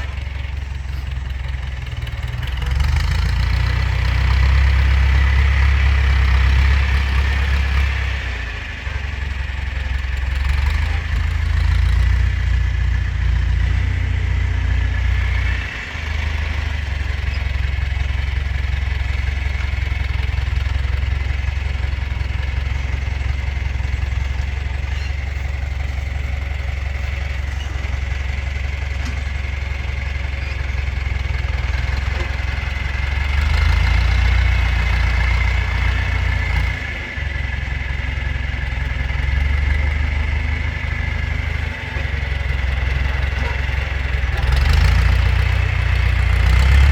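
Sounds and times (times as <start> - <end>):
tractor engine rumbling: 0.0 - 46.9.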